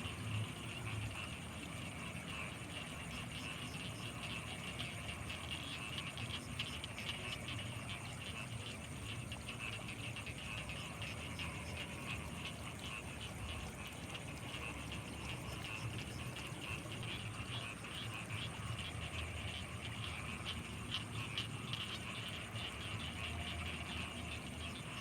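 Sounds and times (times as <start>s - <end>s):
frogs calling: 0.0s - 25.0s.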